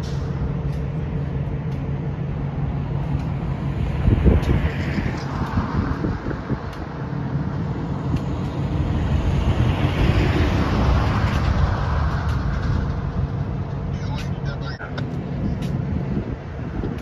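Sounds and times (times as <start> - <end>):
road traffic rumble: 0.0 - 17.0
vehicle passing: 0.0 - 17.0.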